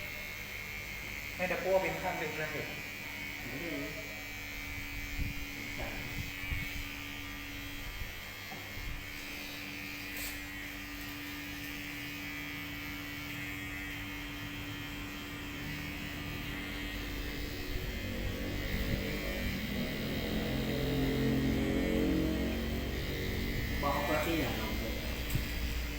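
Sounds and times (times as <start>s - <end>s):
small electric motor humming: 0.0s - 25.9s.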